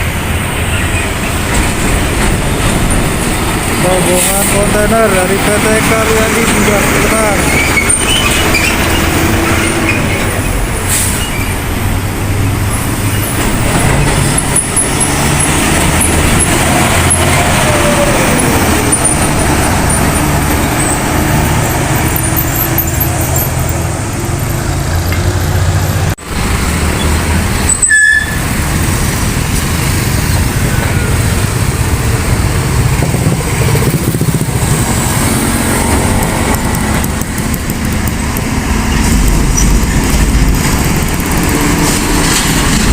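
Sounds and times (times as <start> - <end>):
diesel truck engine rumble: 0.0 - 42.9
road traffic: 0.0 - 42.9.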